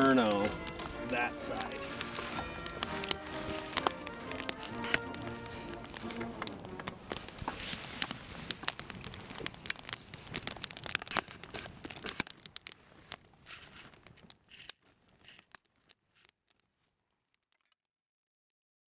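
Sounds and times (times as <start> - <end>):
campfire crackling and popping: 0.0 - 17.8.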